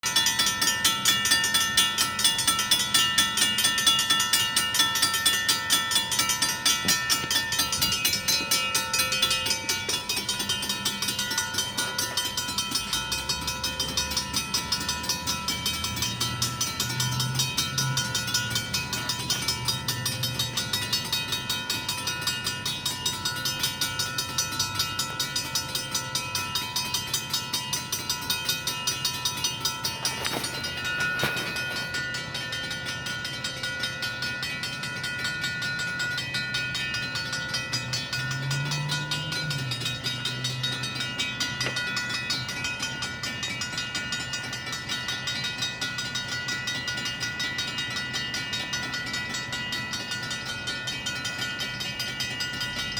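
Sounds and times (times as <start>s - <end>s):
railroad crossing bells ringing: 0.0s - 52.9s.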